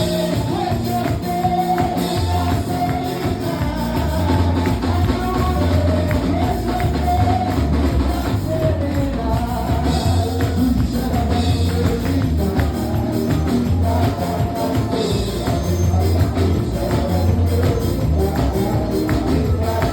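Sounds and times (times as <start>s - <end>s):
heavy bass line: 0.0s - 19.9s
voices singing: 0.0s - 19.9s.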